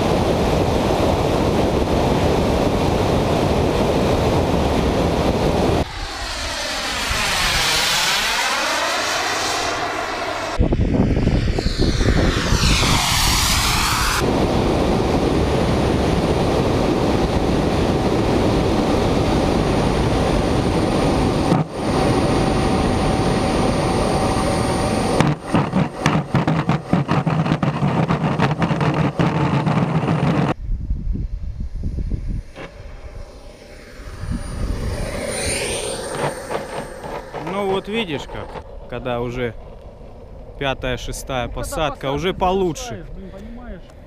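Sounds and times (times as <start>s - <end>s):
rushing air: 0.0s - 41.6s
jet turbine whine: 0.0s - 44.0s.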